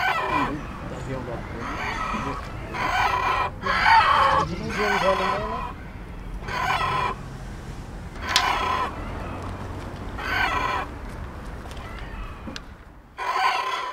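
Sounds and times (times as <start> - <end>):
roosters crowing: 0.0 - 13.9.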